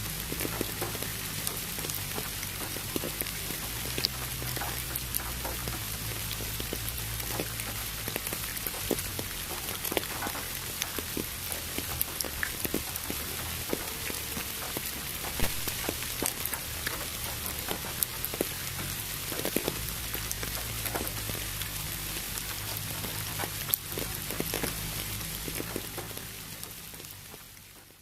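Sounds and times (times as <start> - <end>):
pink noise: 0.0 - 28.0
rain drops pattering: 0.0 - 28.0.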